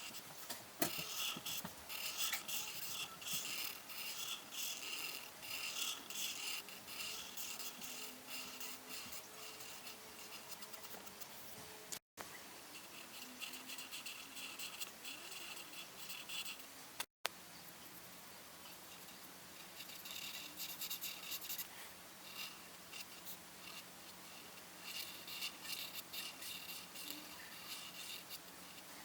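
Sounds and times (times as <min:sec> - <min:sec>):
scratchy scribbling on paper: 0:00.0 - 0:11.6, 0:12.8 - 0:16.7, 0:19.0 - 0:29.0.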